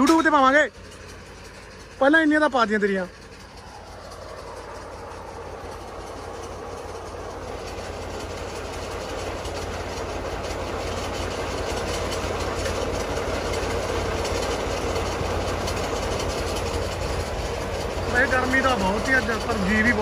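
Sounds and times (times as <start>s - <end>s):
fast rattling clatter: 0.0s - 20.0s
tractor engine running: 0.0s - 20.0s.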